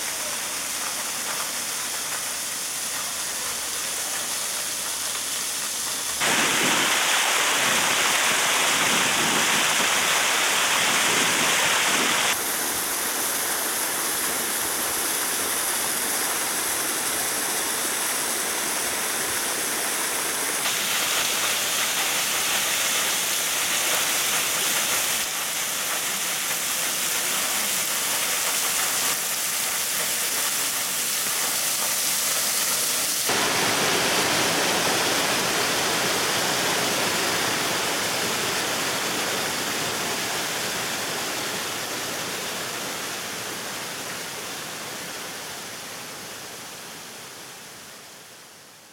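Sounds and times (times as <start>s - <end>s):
waterfall splashing over rocks: 0.0s - 48.9s.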